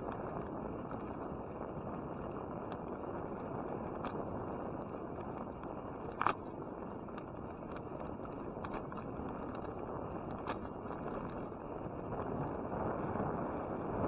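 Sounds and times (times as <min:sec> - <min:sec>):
light clicks and rattles: 0:00.0 - 0:12.6
bicycle tyre and wind noise: 0:00.0 - 0:14.0.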